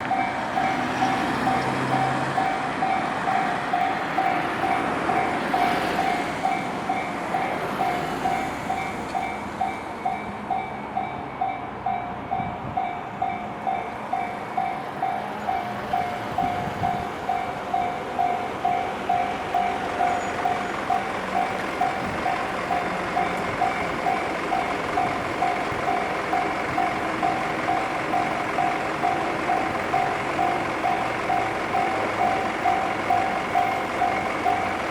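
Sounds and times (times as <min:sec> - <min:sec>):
level crossing warning bell ringing: 0:00.0 - 0:34.9
passing train rumble: 0:00.0 - 0:34.9.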